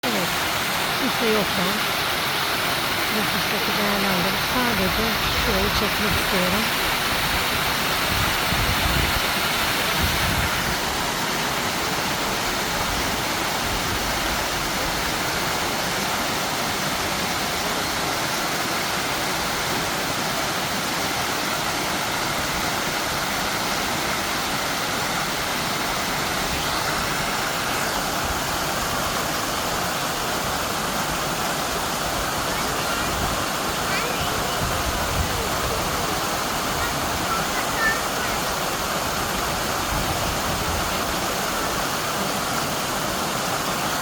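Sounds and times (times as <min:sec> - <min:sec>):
water pouring down waterfall: 0:00.0 - 0:44.0.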